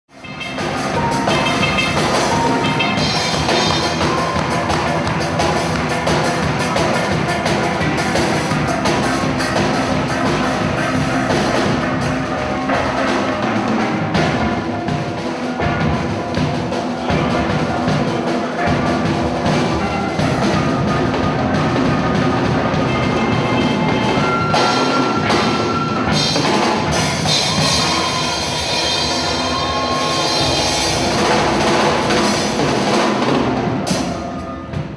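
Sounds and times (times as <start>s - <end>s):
drums and percussion: 0.1s - 34.9s
steel pans playing tune: 0.1s - 34.9s.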